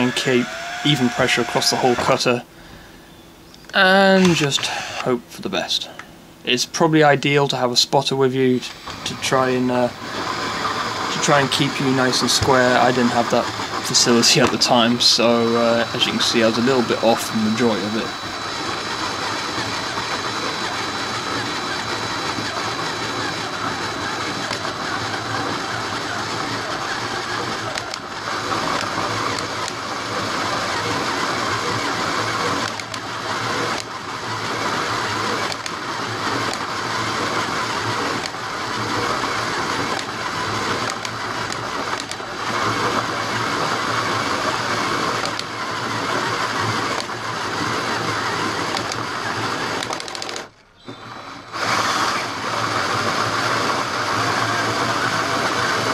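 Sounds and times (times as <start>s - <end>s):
hole saw grinding through metal: 0.0s - 2.4s, 3.9s - 5.2s, 8.6s - 55.9s
power drill motor running: 0.0s - 6.6s, 8.3s - 55.9s.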